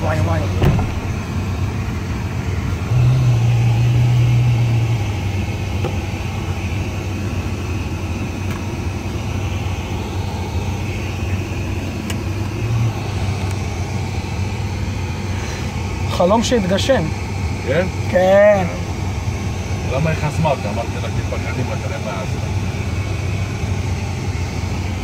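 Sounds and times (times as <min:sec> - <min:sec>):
car engine idling hum: 0:00.0 - 0:25.0.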